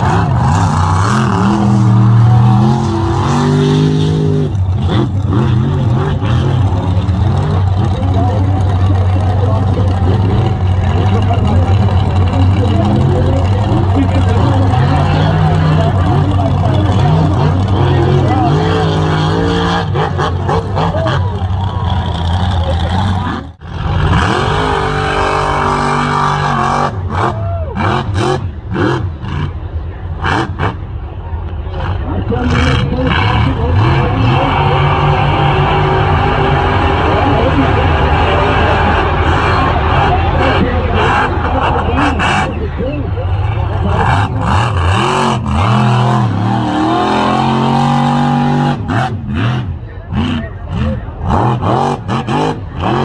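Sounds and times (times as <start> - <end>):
truck engine running at high revs: 0.0 - 53.0.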